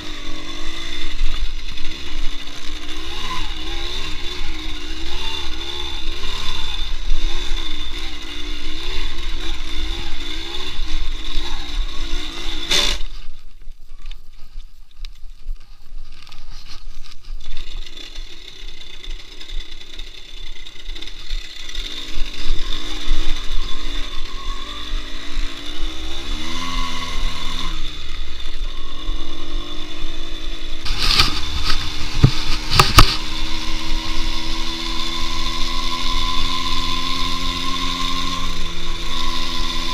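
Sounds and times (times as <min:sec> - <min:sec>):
motorcycle engine revving: 0:00.0 - 0:13.4, 0:17.0 - 0:39.9.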